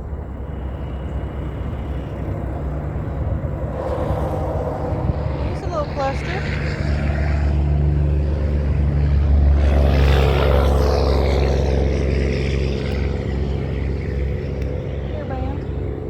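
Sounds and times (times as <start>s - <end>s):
passing vehicle engine rumble: 0.0s - 16.0s
road noise: 0.0s - 16.0s.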